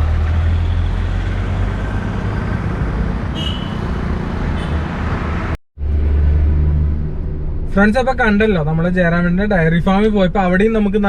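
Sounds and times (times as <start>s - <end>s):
rumble of passing vehicles: 0.0s - 10.7s.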